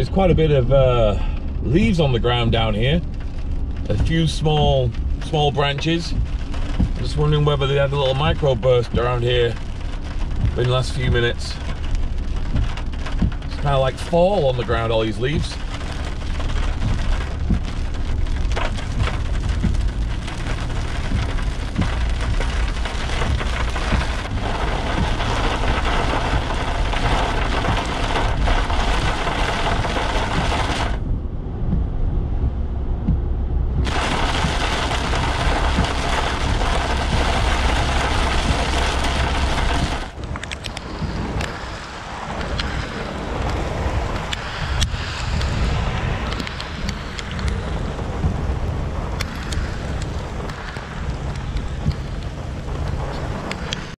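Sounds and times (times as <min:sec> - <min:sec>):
heavy rain on car roof: 0:00.0 - 0:31.9, 0:33.0 - 0:53.9
engine and tyres on wet road: 0:00.0 - 0:53.9.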